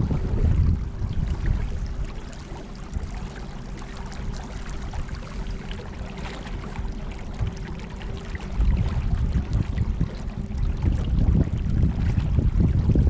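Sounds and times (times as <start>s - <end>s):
thin constant whine: 0.0s - 12.2s
steady low hum: 0.0s - 13.0s
water lapping against boat: 0.0s - 13.0s.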